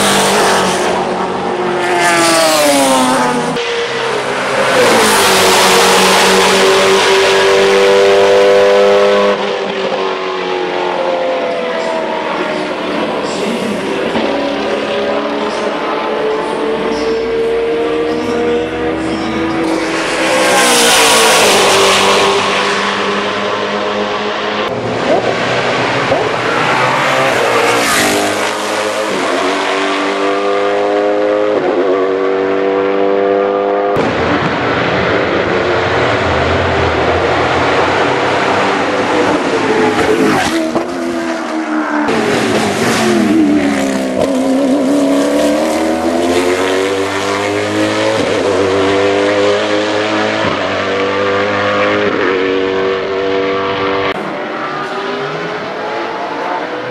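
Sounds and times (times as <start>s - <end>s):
race car engine at full throttle: 0.0s - 56.9s.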